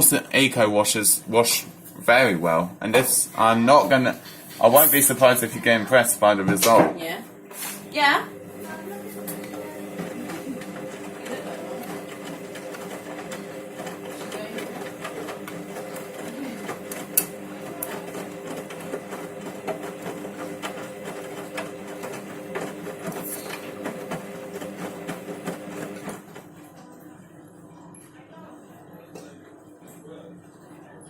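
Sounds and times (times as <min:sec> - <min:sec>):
washing machine motor humming: 0:00.0 - 0:26.6.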